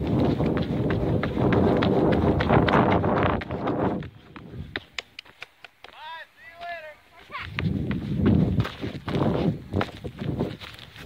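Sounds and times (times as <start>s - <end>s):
footsteps scrambling up loose earth: 0.0s - 11.0s.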